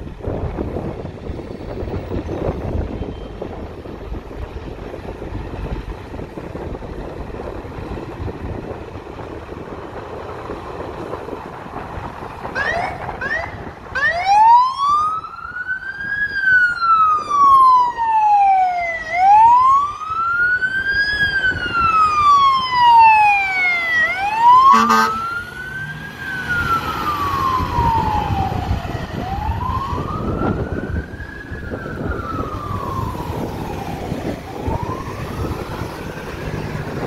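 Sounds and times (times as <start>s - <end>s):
street traffic rumble: 0.0s - 37.0s
fire engine siren: 1.0s - 37.0s.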